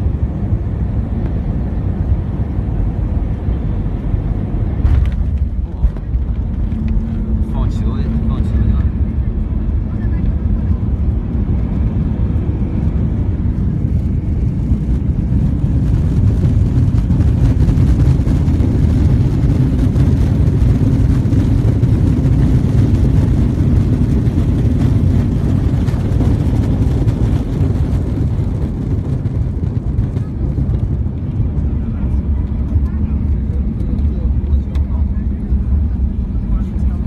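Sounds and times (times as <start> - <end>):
jet engine roar in cabin: 0.0 - 37.0.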